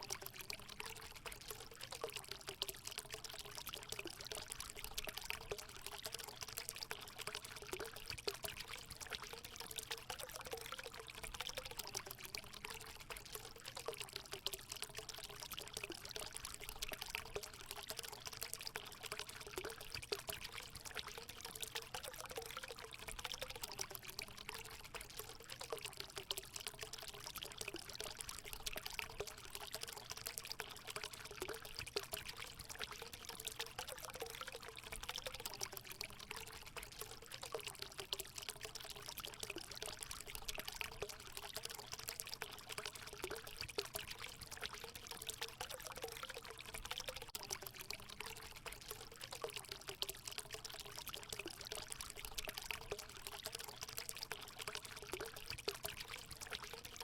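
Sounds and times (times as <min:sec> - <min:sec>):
water pouring into pool: 0:00.0 - 0:57.0.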